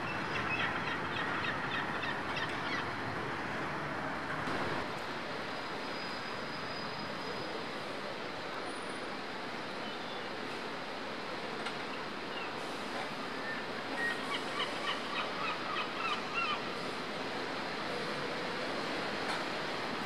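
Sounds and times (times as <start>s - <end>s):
urban rumble and hiss: 0.0s - 20.0s.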